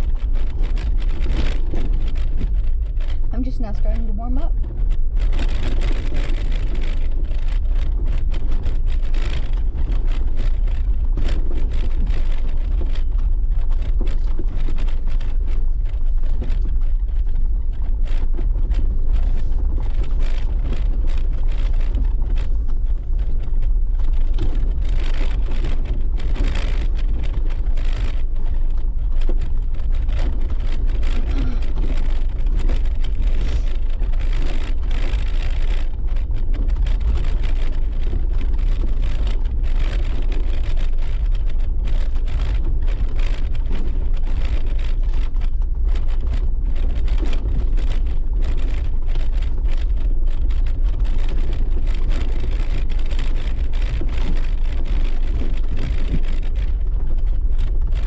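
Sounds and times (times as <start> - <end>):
knocks and rattles from bumps: 0.0 - 58.0
vehicle engine and tyres rumbling: 0.0 - 58.0.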